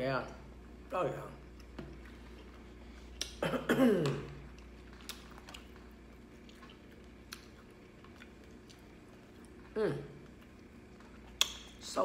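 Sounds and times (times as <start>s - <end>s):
quiet chewing: 1.4s - 3.4s, 4.0s - 11.8s.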